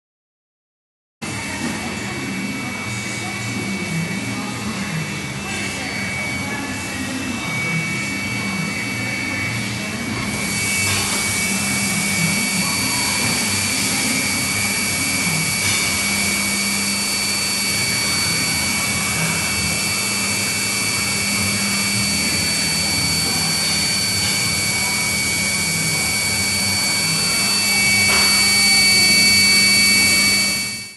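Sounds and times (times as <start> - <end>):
machining centre humming and whining: 1.2 - 30.9.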